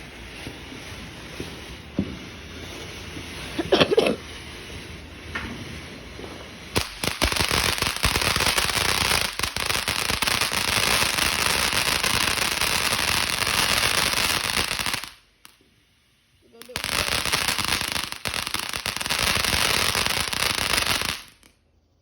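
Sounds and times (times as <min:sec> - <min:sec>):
ground firework crackling: 0:00.0 - 0:22.0.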